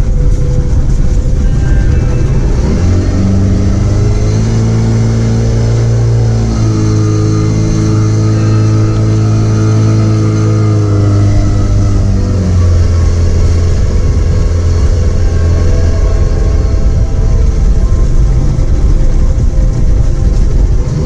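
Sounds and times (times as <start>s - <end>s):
motor engine running: 0.0s - 21.0s.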